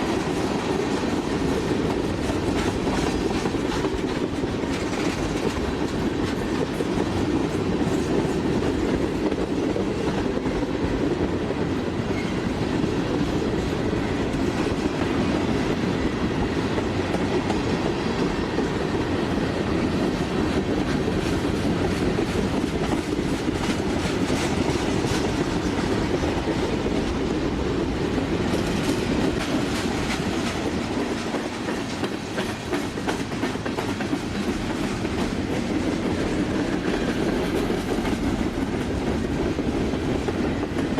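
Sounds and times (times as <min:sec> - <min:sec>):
railroad cars rolling past: 0:00.0 - 0:40.9
wheels clicking over rail joints: 0:00.1 - 0:40.9.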